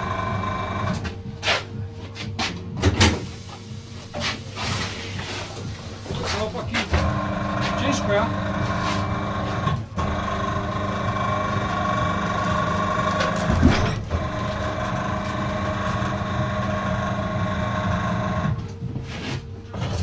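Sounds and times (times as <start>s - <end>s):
motor whine: 0.0s - 1.4s, 3.5s - 19.0s.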